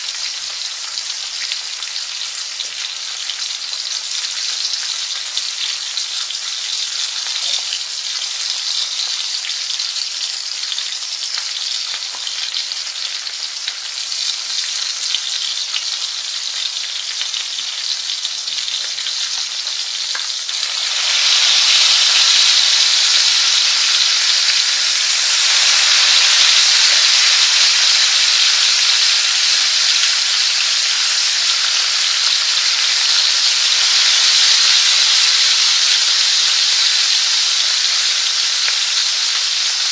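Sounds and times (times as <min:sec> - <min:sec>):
food frying: 0:00.0 - 0:39.9.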